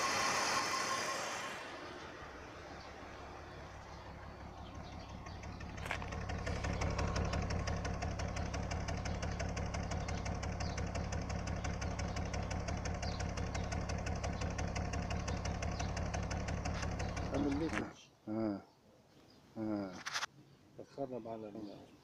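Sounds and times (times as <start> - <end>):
car engine idling unevenly: 0.0 - 17.9.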